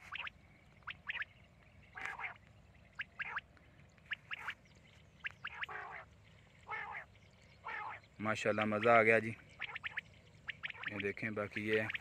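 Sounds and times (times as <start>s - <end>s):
quail calling: 0.0s - 3.5s, 4.1s - 4.6s, 5.2s - 12.0s.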